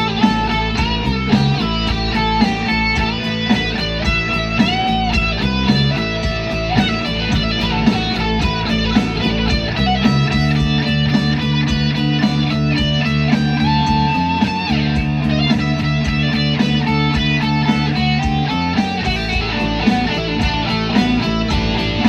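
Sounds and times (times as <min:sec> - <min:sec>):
guitar-led instrumental music: 0:00.0 - 0:22.0.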